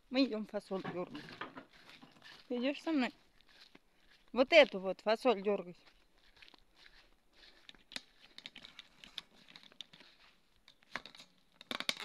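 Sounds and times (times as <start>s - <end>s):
footsteps on dry ground: 0.0s - 11.2s.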